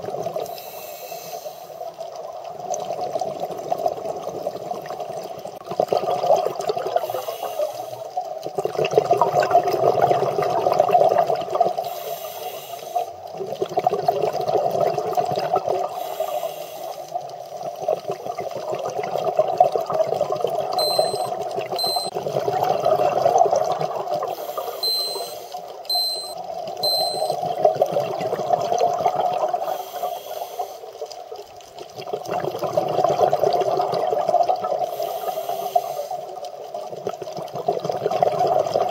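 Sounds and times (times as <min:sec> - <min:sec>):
underwater exhaled bubbles: 0:00.0 - 0:25.0, 0:26.5 - 0:38.9.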